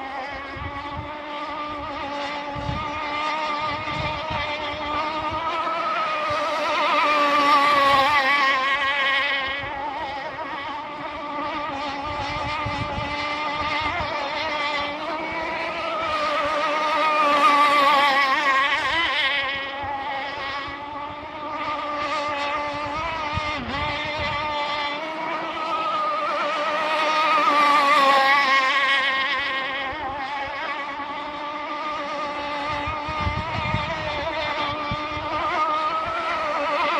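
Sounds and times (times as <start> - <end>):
model speedboat motor buzzing: 0.0 - 36.9.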